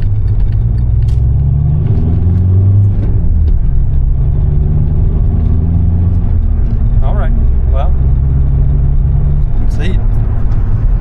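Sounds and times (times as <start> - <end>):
low engine drone: 0.0 - 11.0
road rumble: 0.0 - 11.0.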